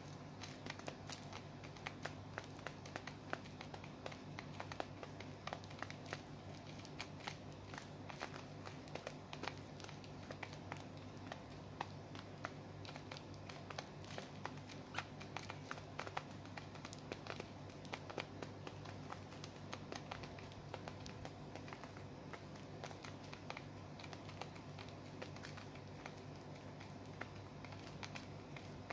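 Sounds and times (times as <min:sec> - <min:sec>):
birds pecking seed: 0:00.0 - 0:28.9.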